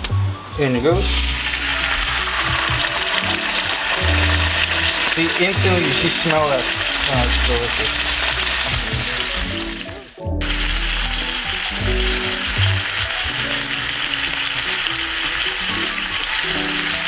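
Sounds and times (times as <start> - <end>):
chicken sizzling in pan: 1.0 - 17.0.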